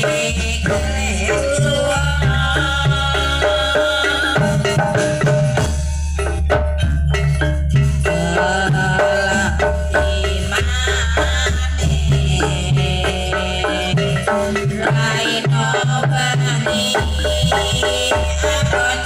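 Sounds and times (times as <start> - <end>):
low bass: 0.0 - 18.6
hand drums beating: 0.0 - 19.0
metallic mallet percussion: 0.0 - 19.0.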